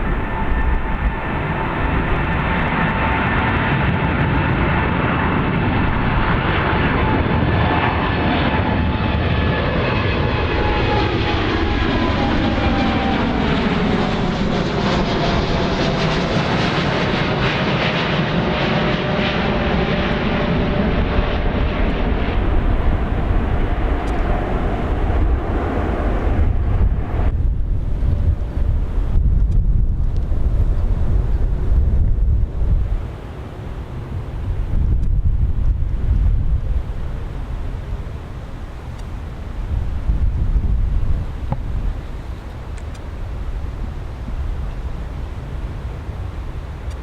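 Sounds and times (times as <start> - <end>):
jet airliner engine roar: 0.0 - 47.0.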